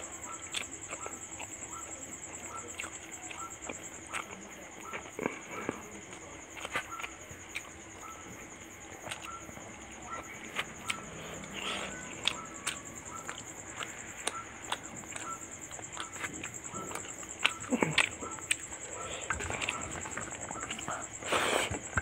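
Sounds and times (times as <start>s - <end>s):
insect trill: 0.0s - 22.0s
chewing and wet mouth clicks: 0.2s - 8.1s, 8.8s - 22.0s.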